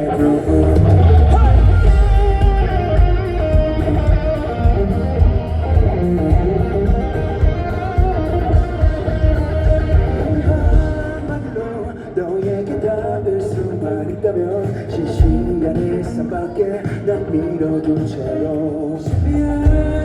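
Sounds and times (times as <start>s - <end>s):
bass guitar: 0.0s - 17.6s, 19.1s - 20.0s
drums: 0.0s - 20.0s
electric guitar lead melody: 0.0s - 20.0s.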